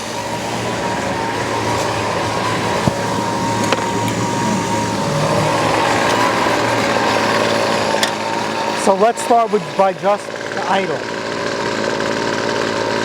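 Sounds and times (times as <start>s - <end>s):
string trimmer engine idling: 0.0s - 13.0s.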